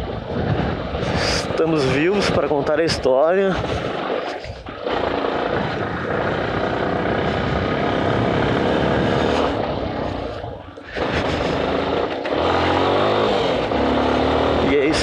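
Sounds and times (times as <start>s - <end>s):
wind noise on microphone: 0.0s - 12.5s
motorcycle engine running: 0.0s - 15.0s.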